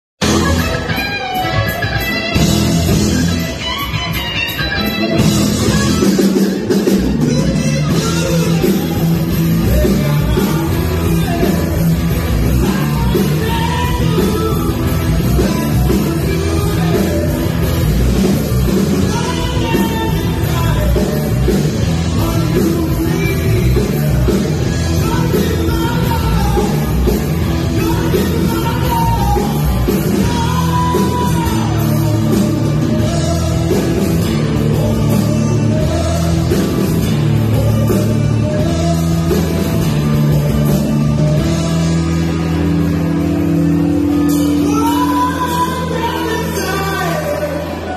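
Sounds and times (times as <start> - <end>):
person singing: 0.2 - 47.9
rock band playing: 0.2 - 47.9.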